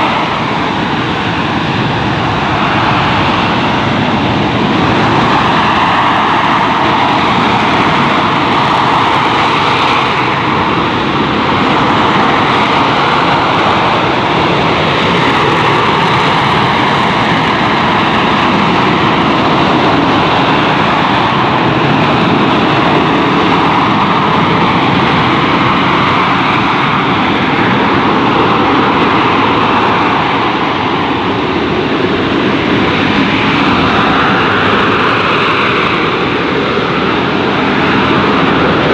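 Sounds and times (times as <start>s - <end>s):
jet engine roaring: 0.0s - 38.9s.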